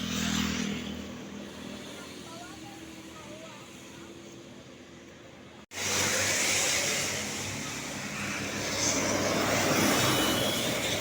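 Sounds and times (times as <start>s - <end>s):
road rushing noise: 0.0s - 11.0s
vehicle engine running close: 0.0s - 11.0s.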